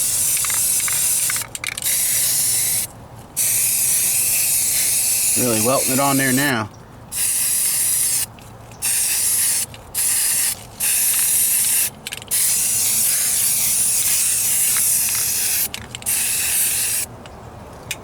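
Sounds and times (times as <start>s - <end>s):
spray can hissing: 0.0s - 6.4s, 7.2s - 17.1s.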